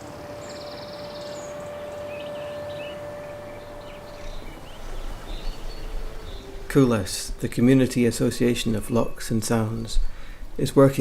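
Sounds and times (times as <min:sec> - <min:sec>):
steady tone: 0:00.0 - 0:10.6
outdoor background hiss: 0:00.0 - 0:11.0
small birds chirping: 0:00.0 - 0:11.0.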